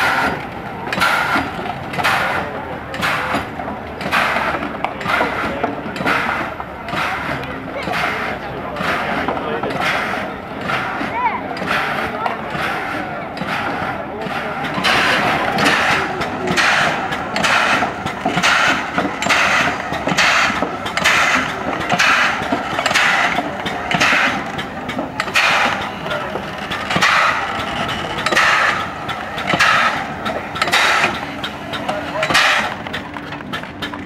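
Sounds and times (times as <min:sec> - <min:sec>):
low mechanical rumble: 0:00.0 - 0:34.0
steam engine chuffing: 0:00.0 - 0:34.0.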